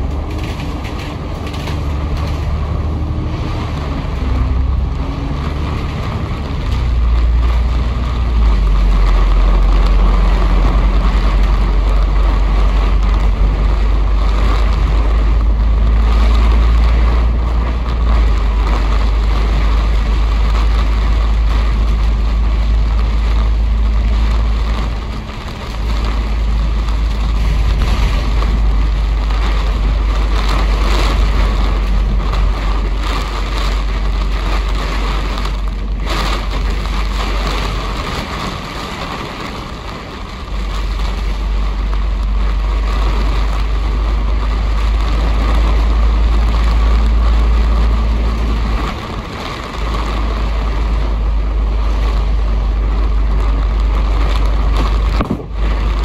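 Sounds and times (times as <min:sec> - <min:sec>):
bus engine and road rumble: 0:00.0 - 0:56.0
tyre and rain noise: 0:00.0 - 0:56.0.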